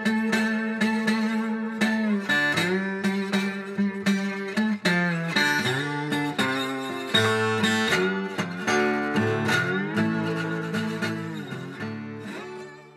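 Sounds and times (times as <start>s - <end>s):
plucked string melody: 0.0s - 12.9s.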